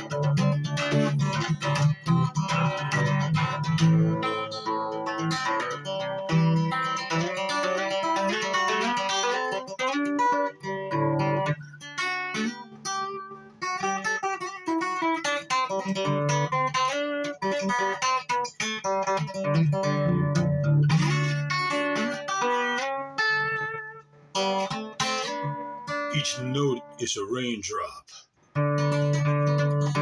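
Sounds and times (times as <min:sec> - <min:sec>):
solo guitar plucked notes and chords: 0:00.0 - 0:27.0, 0:28.5 - 0:30.0.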